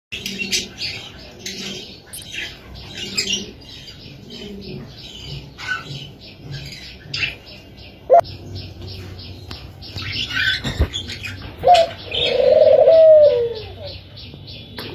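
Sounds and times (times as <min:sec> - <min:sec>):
birds chirping rapidly: 0:00.1 - 0:14.9
doves cooing: 0:00.1 - 0:14.9.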